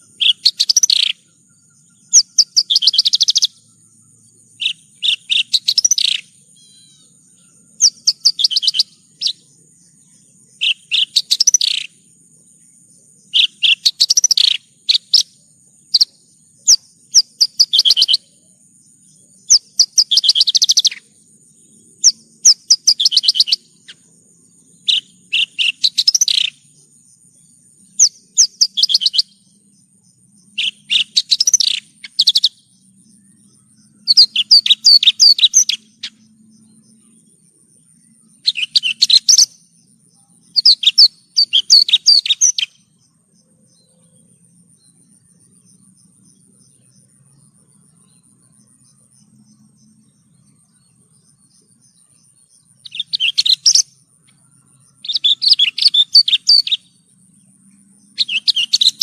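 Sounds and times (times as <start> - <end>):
lark chirping song: 0.0 - 59.0.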